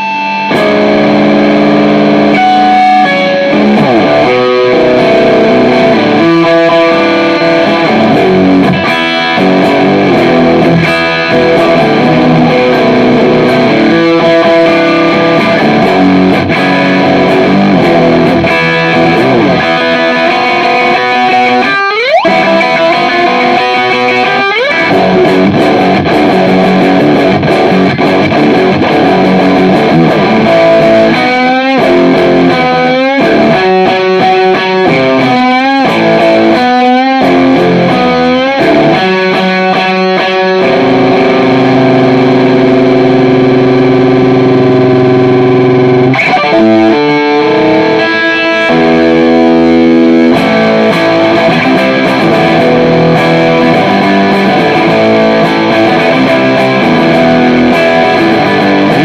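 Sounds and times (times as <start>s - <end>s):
distorted electric guitar riffs: 0.0s - 59.0s
guitar slides: 0.0s - 59.0s.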